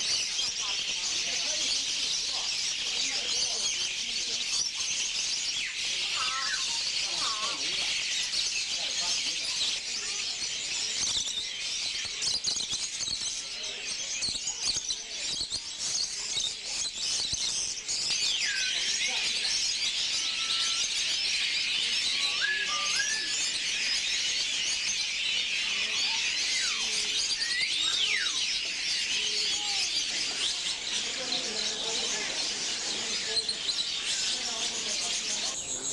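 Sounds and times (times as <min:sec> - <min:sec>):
songbirds chirping: 0:00.0 - 0:35.9
whistled bird calls: 0:00.0 - 0:35.9.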